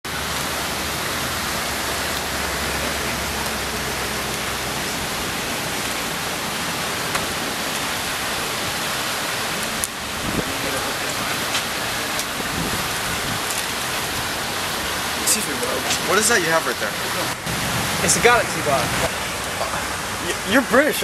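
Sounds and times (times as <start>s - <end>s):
fountain water spraying: 0.1s - 21.0s.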